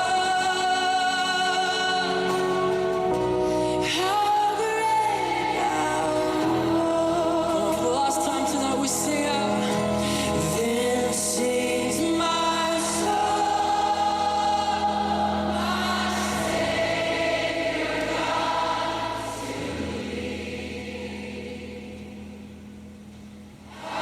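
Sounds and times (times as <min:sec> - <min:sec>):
choir singing: 0:00.0 - 0:03.2, 0:03.8 - 0:09.5, 0:10.4 - 0:22.7, 0:23.7 - 0:24.0.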